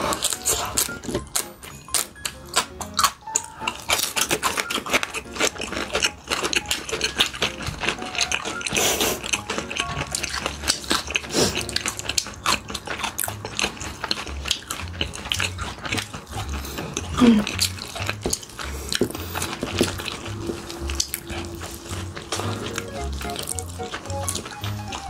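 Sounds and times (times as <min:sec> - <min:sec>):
people chewing and smacking: 0:00.0 - 0:25.0.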